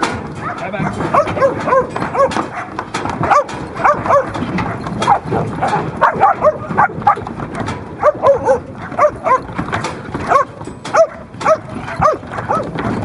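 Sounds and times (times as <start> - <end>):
dog barking sharply: 0.4 - 12.7.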